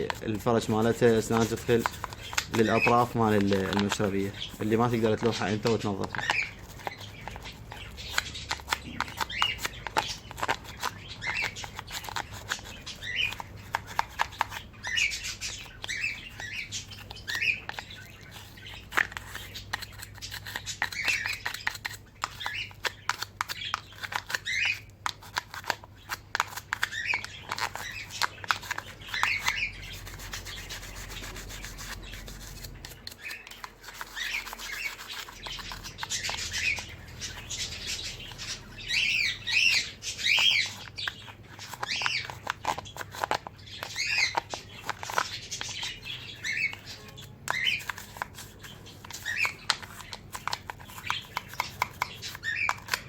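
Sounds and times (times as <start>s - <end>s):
cage birds chirping: 0.0s - 53.0s
toothbrush scrubbing: 0.0s - 53.0s.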